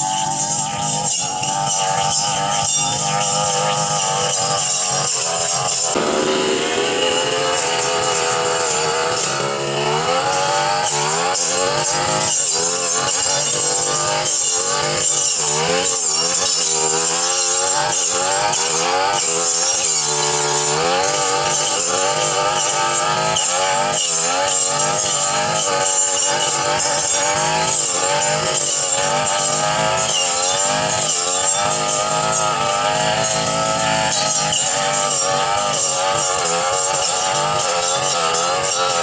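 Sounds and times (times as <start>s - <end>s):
brush cutter engine cutting brush: 0.0s - 39.0s.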